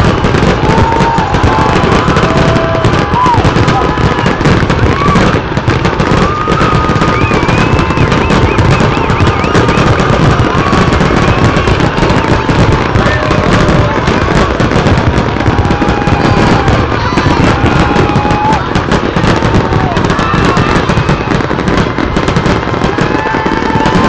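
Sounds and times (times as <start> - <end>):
fireworks bangs and crackling: 0.0 - 24.0
fireworks whistling: 0.0 - 24.0.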